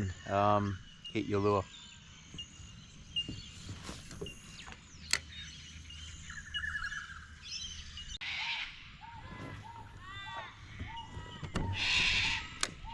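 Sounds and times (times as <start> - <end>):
birds chirping: 0.0 - 12.9
outdoor background hum: 0.0 - 12.9.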